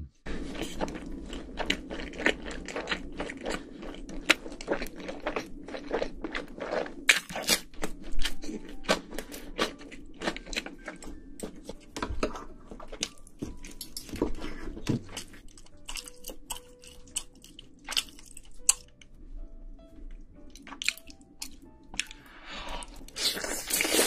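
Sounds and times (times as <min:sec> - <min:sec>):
person chewing crunchy food: 0:00.3 - 0:19.0, 0:20.5 - 0:24.0.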